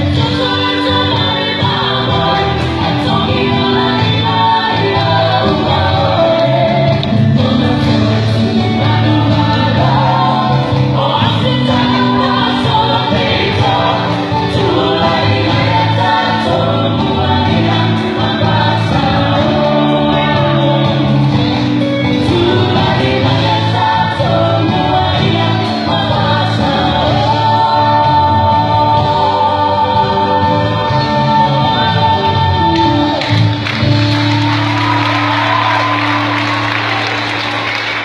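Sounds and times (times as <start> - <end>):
group singing dance music: 0.0 - 38.0.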